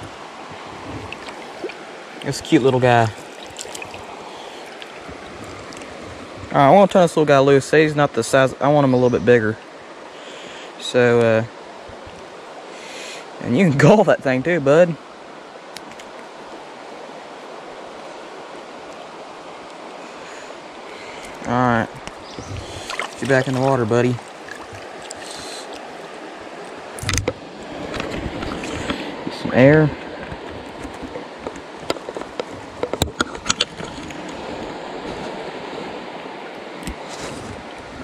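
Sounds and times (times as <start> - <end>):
creek water flowing: 0.0 - 38.0.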